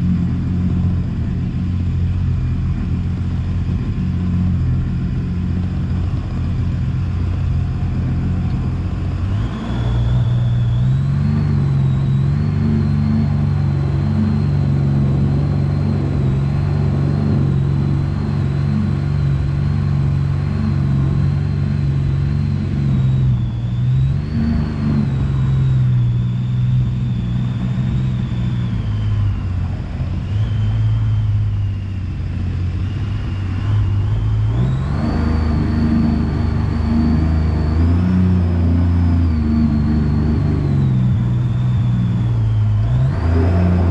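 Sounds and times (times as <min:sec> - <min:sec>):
jet boat engine running: 0:00.0 - 0:43.9.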